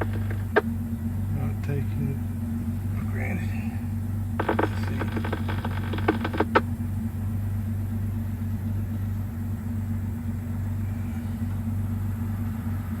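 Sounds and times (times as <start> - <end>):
car cabin drone while driving: 0.0 - 13.0.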